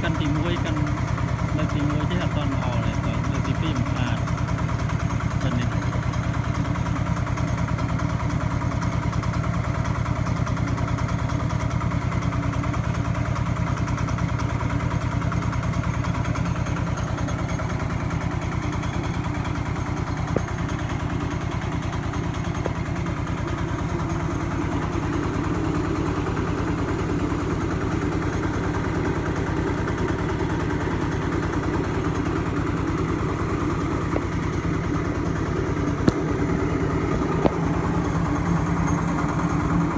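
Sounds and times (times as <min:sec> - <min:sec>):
diesel engine chugging: 0:00.0 - 0:39.9
rice mill running: 0:00.0 - 0:39.9.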